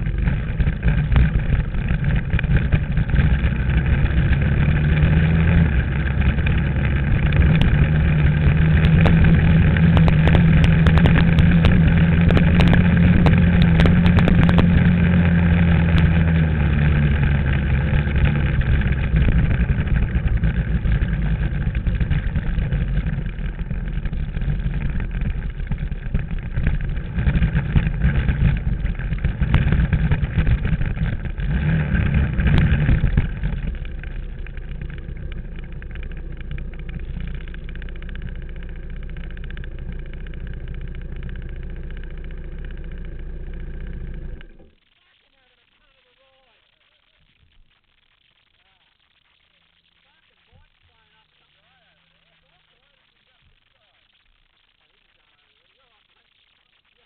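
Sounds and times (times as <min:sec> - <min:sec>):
dirt bike engine running: 0:00.0 - 0:48.8.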